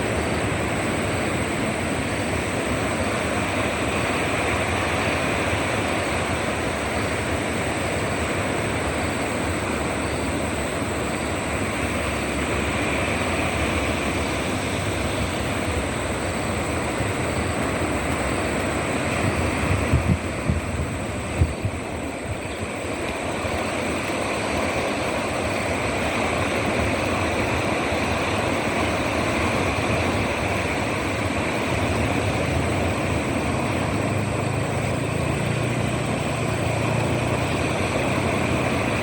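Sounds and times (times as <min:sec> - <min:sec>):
ocean waves breaking: 0:00.0 - 0:39.0.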